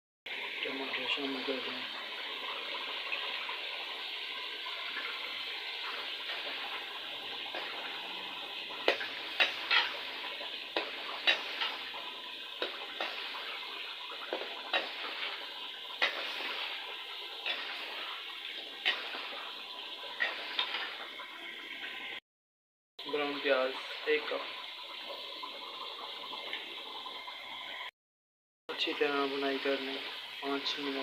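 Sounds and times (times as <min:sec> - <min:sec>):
curry sizzling in a pot: 0:00.3 - 0:22.2, 0:23.0 - 0:27.9, 0:28.7 - 0:31.0.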